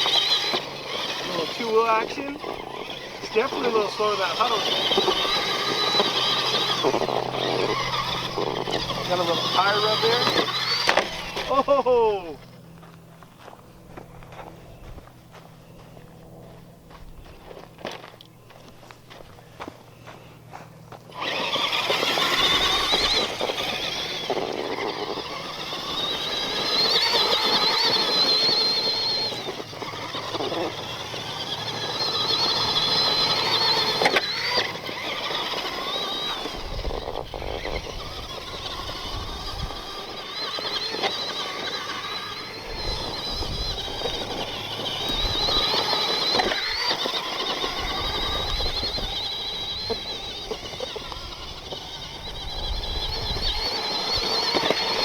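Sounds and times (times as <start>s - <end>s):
electric motor whine: 0.0s - 55.0s
tires on the ground: 0.0s - 55.0s.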